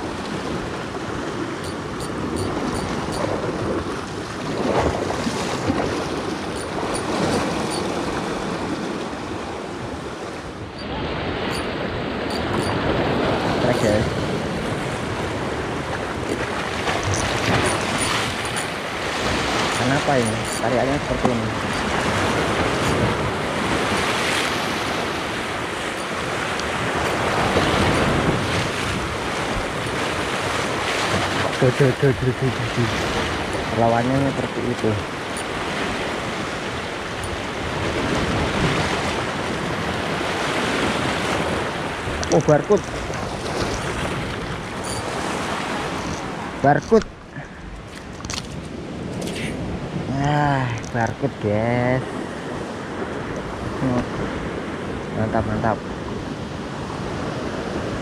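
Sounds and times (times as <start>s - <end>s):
surf breaking on rocks: 0.0s - 46.6s
wind buffeting microphone: 0.0s - 46.6s.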